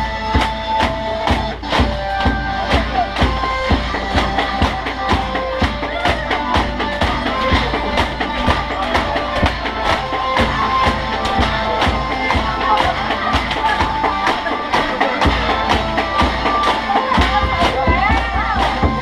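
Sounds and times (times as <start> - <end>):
song with steady drum beat: 0.0 - 19.0.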